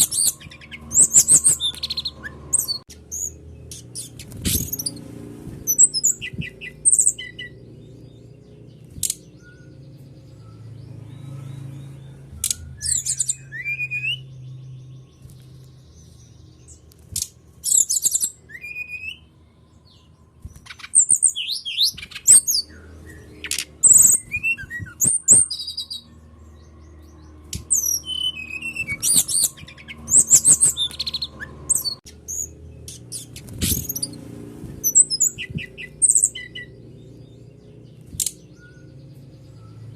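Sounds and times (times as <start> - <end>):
bird whistles and chirps: 0.0 - 7.6, 8.9 - 15.5, 16.7 - 36.8, 38.1 - 39.9.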